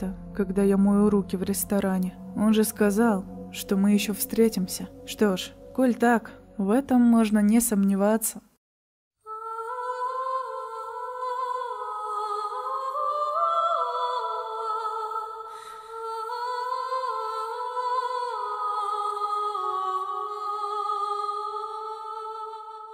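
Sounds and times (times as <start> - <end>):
slow calm music: 0.0 - 8.4, 9.3 - 22.9.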